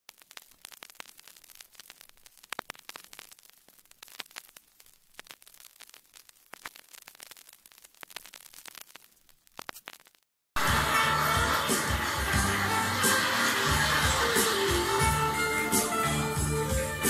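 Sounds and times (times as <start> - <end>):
vinyl record crackle and pops: 0.0 - 17.0.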